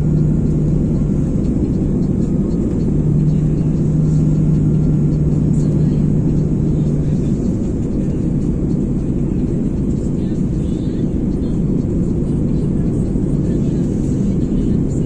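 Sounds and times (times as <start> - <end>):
engine and airflow rumble: 0.0 - 15.0
steady hum: 0.0 - 15.0.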